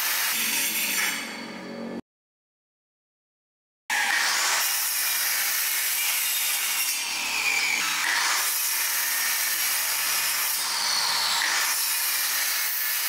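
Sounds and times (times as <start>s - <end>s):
miter saw cutting wood: 0.0s - 1.4s, 3.9s - 13.0s.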